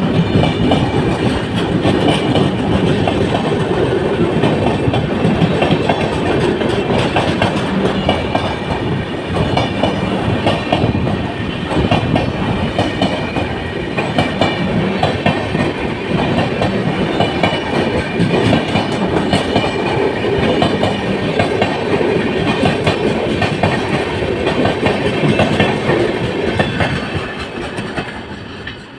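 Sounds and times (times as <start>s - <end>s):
train wheels clattering over rail joints: 0.0s - 28.9s.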